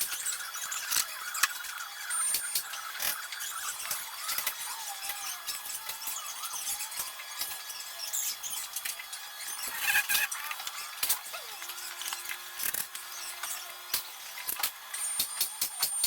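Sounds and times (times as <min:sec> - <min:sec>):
sped-up clicks and squeaks: 0:00.0 - 0:16.0.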